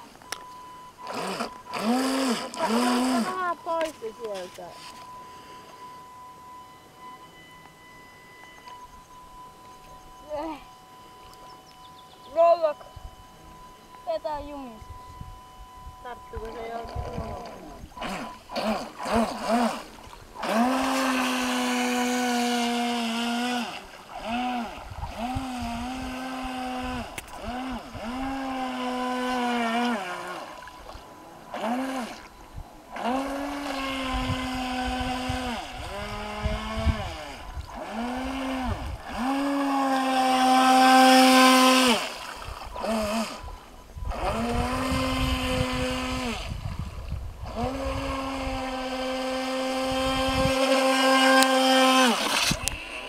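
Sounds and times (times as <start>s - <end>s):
toy boat electric motor whining: 0.0s - 53.0s.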